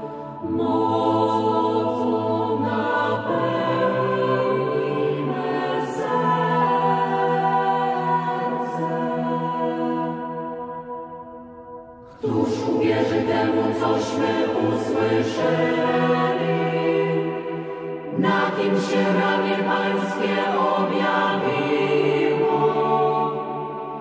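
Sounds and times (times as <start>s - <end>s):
church choir singing a hymn: 0.0s - 24.0s.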